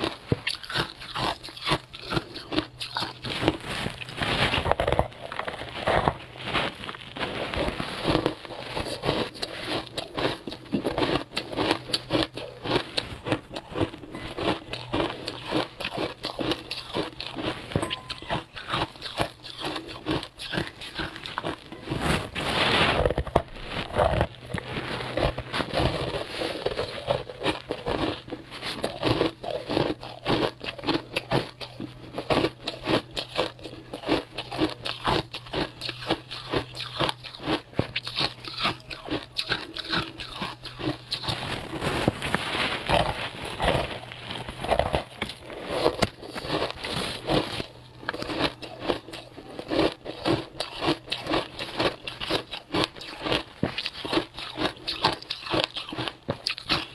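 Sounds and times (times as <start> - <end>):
crunching and chewing ice: 0.0 - 56.9
faint low hum: 0.0 - 56.9.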